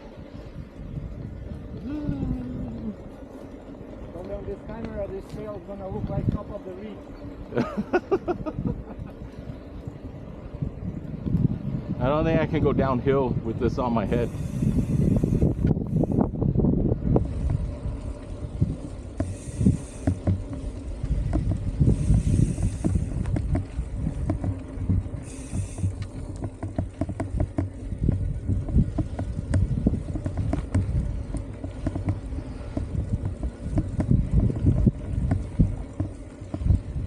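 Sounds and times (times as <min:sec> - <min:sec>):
constant rumble: 0:00.0 - 0:37.0
wind buffeting microphone: 0:00.0 - 0:37.0
bike rattling and knocking: 0:01.2 - 0:09.9, 0:13.8 - 0:37.0.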